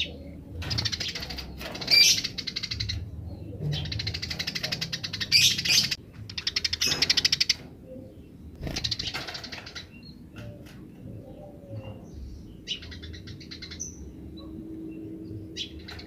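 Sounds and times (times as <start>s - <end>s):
sparrows chattering: 0.0s - 16.0s.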